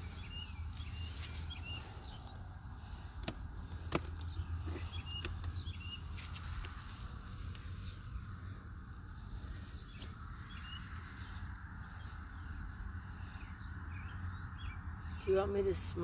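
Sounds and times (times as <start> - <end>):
steady low rumble: 0.0 - 15.3
small birds chirping: 0.0 - 16.0.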